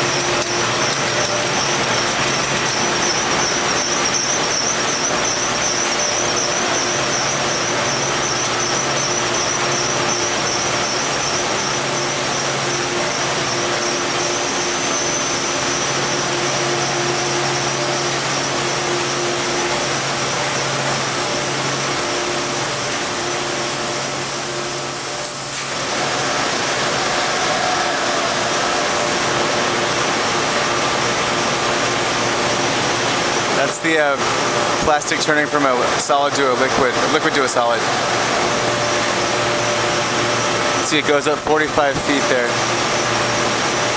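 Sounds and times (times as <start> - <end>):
factory machinery hiss: 0.0 - 43.9
machinery high whine: 0.0 - 43.9
machinery hums: 0.0 - 43.9.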